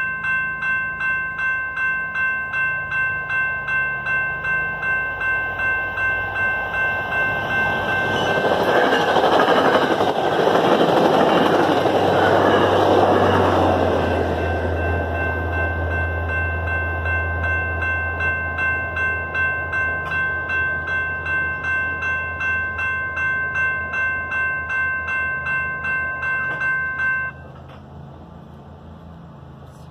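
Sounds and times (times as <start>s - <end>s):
crossing bell ringing: 0.0s - 27.8s
train rushing past: 2.6s - 29.9s.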